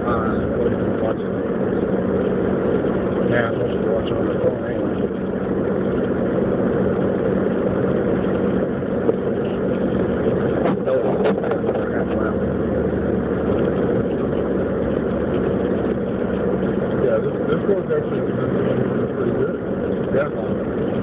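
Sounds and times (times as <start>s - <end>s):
in-cabin road and engine noise: 0.0s - 21.0s.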